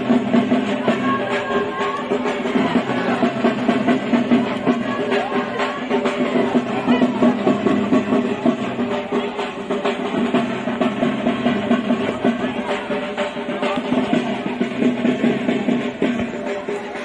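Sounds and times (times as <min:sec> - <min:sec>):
fast dense drumming: 0:00.0 - 0:17.0.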